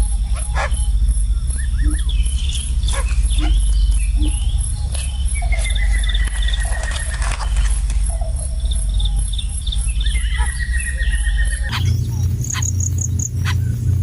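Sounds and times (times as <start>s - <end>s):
bird chirps and calls: 0.0s - 14.0s
high insect ticking: 0.0s - 14.0s
steady low rumble: 0.0s - 14.0s.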